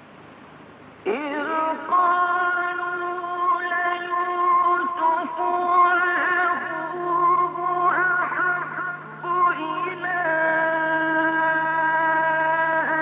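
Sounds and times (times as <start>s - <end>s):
recording hiss: 0.0s - 13.0s
man reciting melodically: 1.0s - 13.0s.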